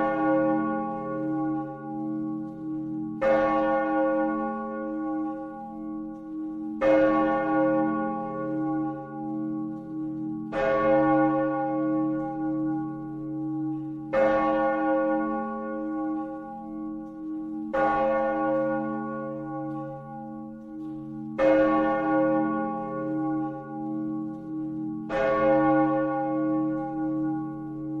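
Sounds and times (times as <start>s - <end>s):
church bell tolling: 0.0s - 28.0s.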